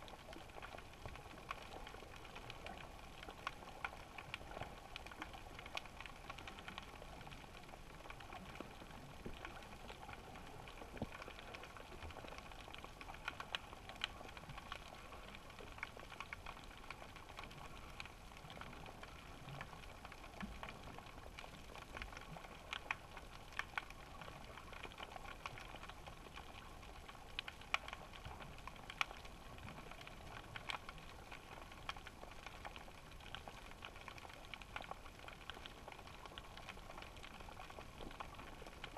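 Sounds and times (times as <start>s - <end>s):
small clicks and crackles: 0.0s - 38.9s.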